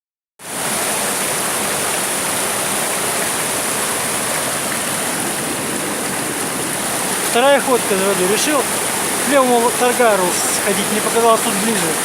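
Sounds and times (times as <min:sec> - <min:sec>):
river rushing over rocks: 0:00.4 - 0:12.0.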